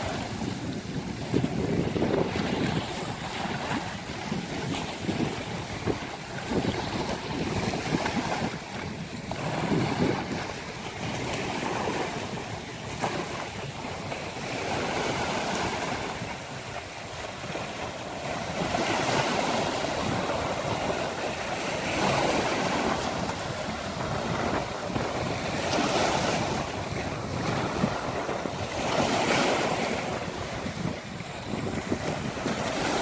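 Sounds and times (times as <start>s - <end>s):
ocean waves breaking on beach: 0.0s - 33.0s
wind buffeting microphone: 0.0s - 33.0s.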